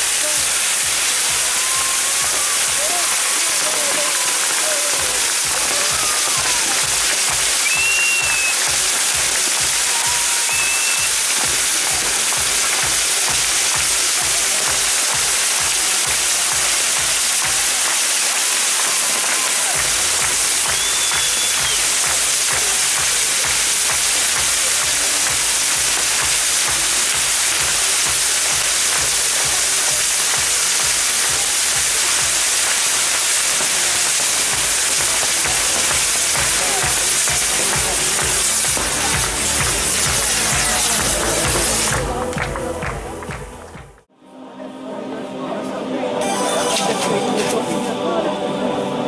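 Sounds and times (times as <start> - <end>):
firework wheel hissing: 0.0 - 42.3.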